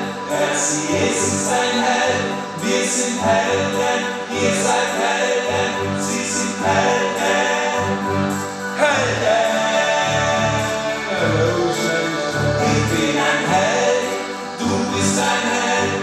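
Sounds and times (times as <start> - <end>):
acoustic guitar: 0.0 - 16.0
man singing: 0.0 - 16.0.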